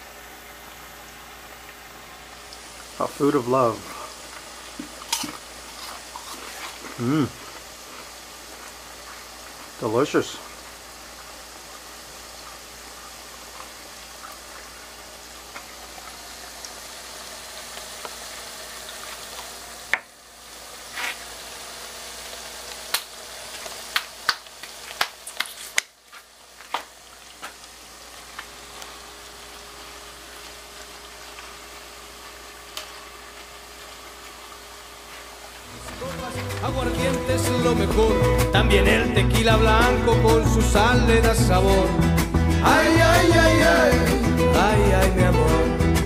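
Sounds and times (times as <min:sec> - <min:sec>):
deep-frying sizzle in oil: 0:00.0 - 0:38.4.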